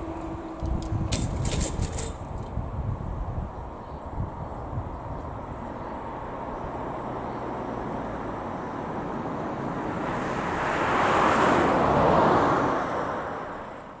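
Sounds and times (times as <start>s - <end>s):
vehicle passing on road: 0.0s - 14.0s.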